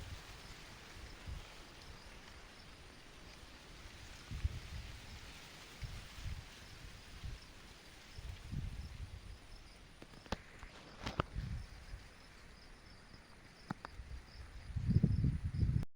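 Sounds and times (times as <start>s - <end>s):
insects chirping: 0.0s - 15.8s.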